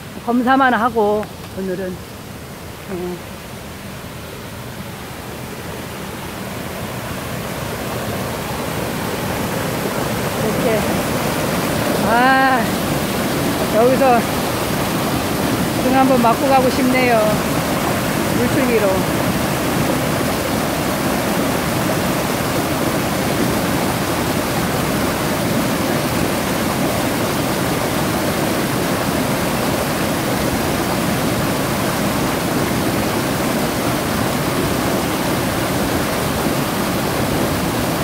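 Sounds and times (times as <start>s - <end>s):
waterfall pouring and splashing: 0.0s - 38.0s.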